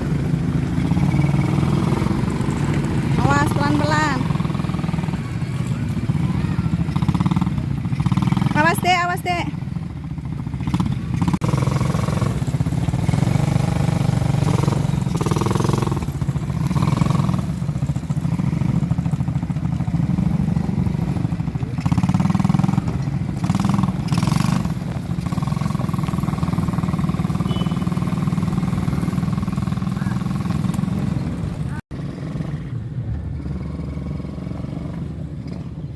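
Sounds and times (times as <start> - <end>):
atv engine running: 0.0 - 35.9.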